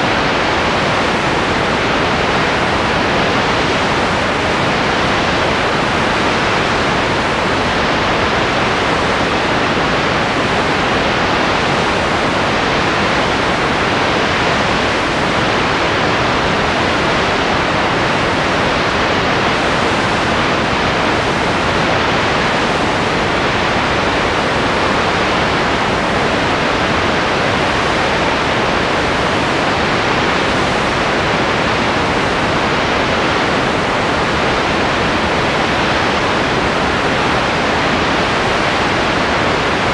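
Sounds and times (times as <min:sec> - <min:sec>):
steady loud hiss: 0:00.0 - 0:39.9.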